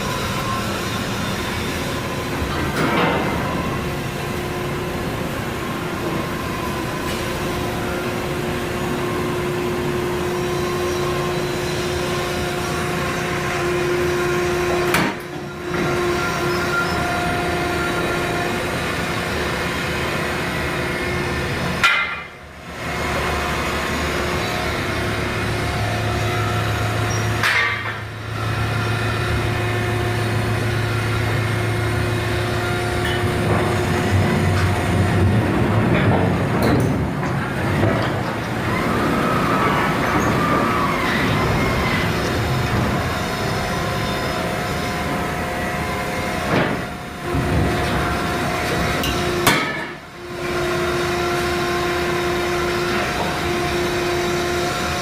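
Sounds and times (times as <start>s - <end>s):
factory machinery rumble and hum: 0.0s - 55.0s.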